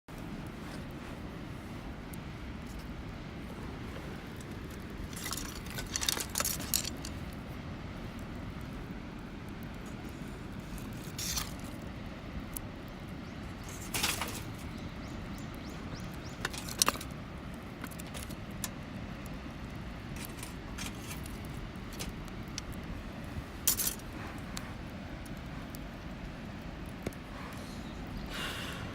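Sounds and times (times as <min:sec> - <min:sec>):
wood fire crackling and popping: 0:00.1 - 0:28.6.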